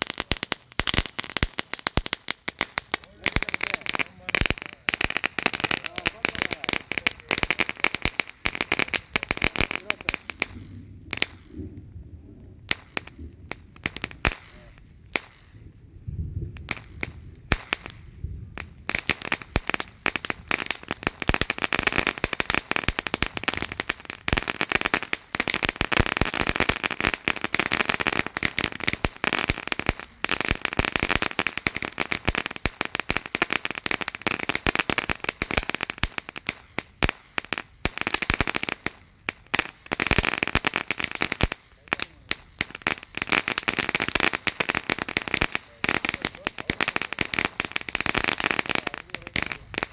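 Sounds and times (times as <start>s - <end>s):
firecracker bangs: 0.0s - 11.7s, 12.6s - 15.6s, 16.4s - 49.9s
rapid firecracker pops: 0.0s - 11.7s, 12.6s - 15.6s, 16.5s - 49.9s.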